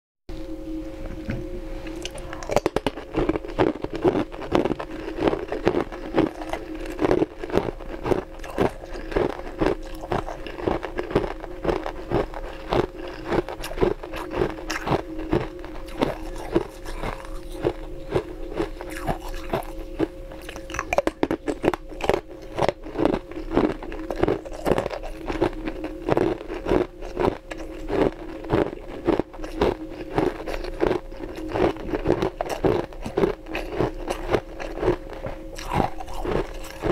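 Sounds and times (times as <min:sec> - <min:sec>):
faint hum: 0:00.3 - 0:36.9
ice crunching being chewed: 0:01.2 - 0:36.9.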